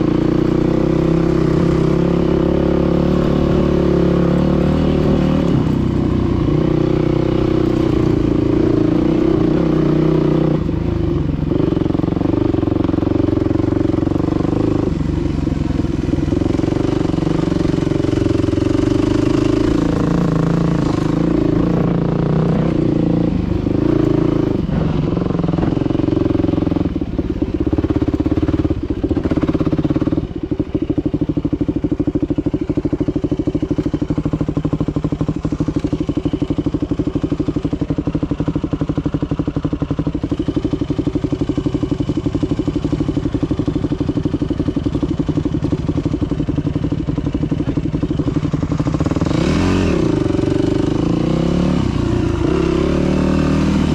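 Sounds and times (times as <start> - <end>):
dirt bike engine revving: 0.0 - 31.3, 31.9 - 53.9.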